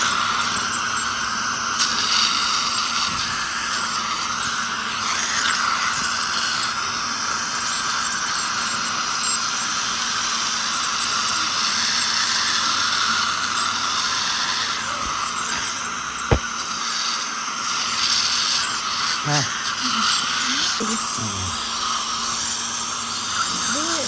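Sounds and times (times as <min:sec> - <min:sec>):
dental scaler spraying water: 0:00.0 - 0:24.0
dental suction: 0:00.0 - 0:24.0.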